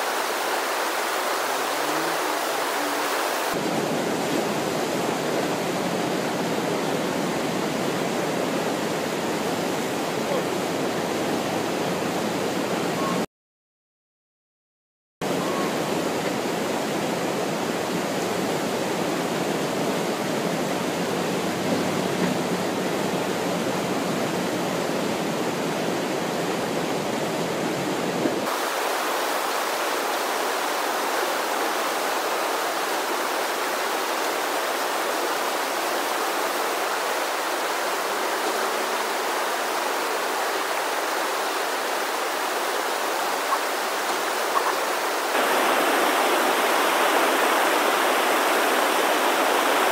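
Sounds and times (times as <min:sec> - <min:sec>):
whitewater rushing: 0:00.0 - 0:13.0, 0:15.3 - 0:49.9.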